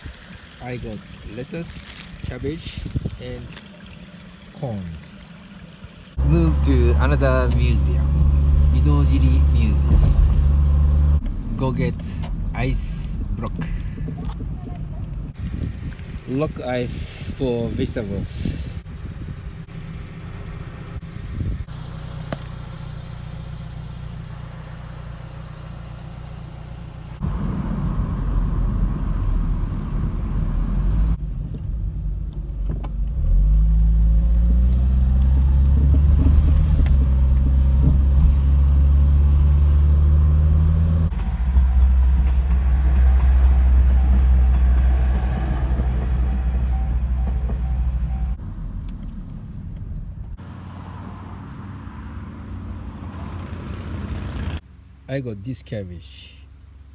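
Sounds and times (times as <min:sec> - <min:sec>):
road noise: 0:00.0 - 0:56.9
car engine low note: 0:00.6 - 0:54.2.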